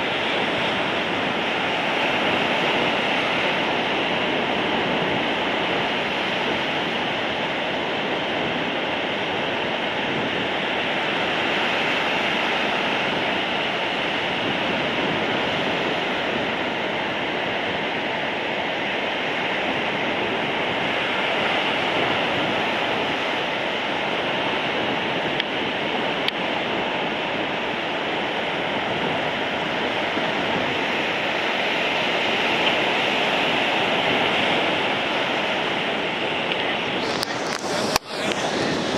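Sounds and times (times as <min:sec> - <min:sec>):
sea surf breaking: 0:00.0 - 0:38.9.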